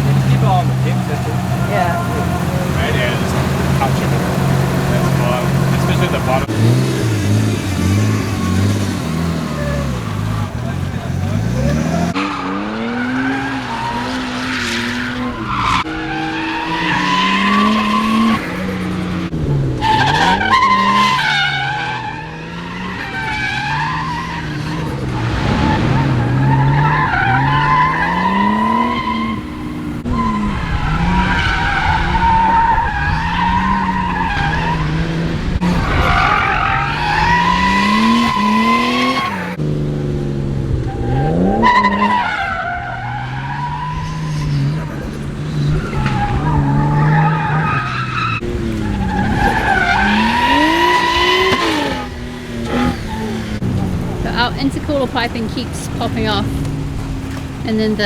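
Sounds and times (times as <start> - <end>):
car engine revving: 0.0 - 58.0
tyres skidding and squealing: 0.0 - 58.0.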